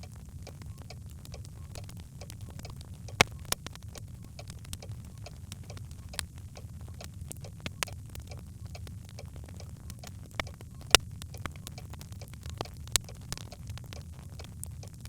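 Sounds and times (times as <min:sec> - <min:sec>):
logs crackling in fireplace: 0:00.0 - 0:15.0
low steady rumble: 0:00.0 - 0:15.0.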